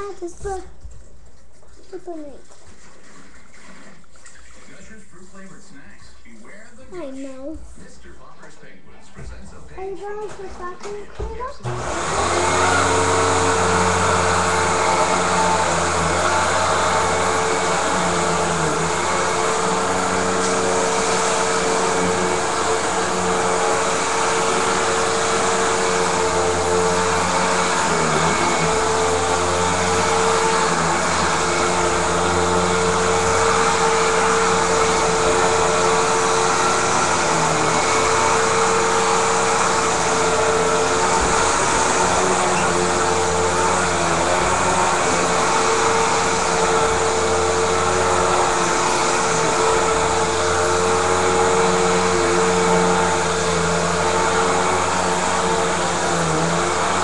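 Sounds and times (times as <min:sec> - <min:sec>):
vacuum cleaner running: 0:00.0 - 0:01.0, 0:01.9 - 0:57.0.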